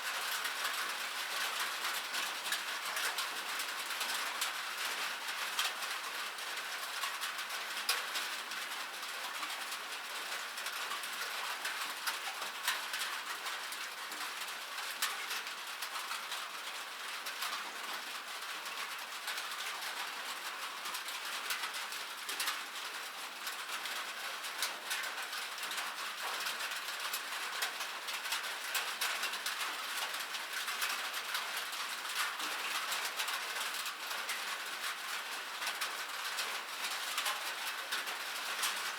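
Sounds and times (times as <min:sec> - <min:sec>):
rain on metal: 0:00.0 - 0:38.9.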